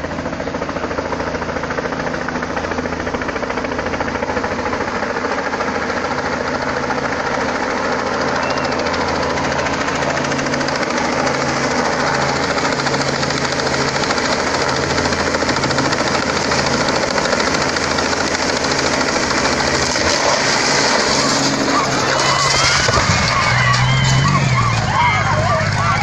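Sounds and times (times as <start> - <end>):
helicopter rotor and engine: 0.0 - 26.0.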